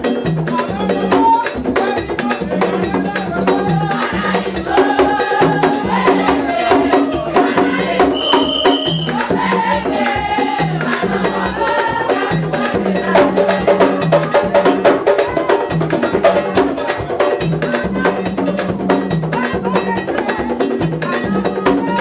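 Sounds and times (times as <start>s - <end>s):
drums and hand percussion: 0.0s - 22.0s
chorus of voices singing: 0.5s - 22.0s.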